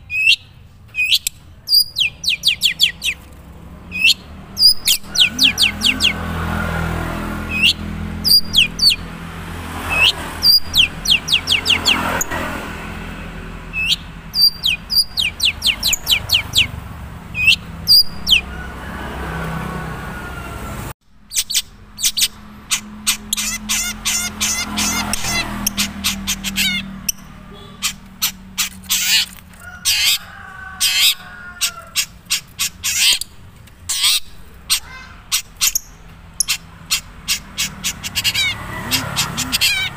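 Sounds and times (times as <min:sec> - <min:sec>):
bird singing sharp high chirps: 0:00.0 - 0:06.4, 0:07.5 - 0:09.1, 0:09.8 - 0:12.4, 0:13.7 - 0:18.5, 0:21.2 - 0:30.2, 0:31.9 - 0:39.9.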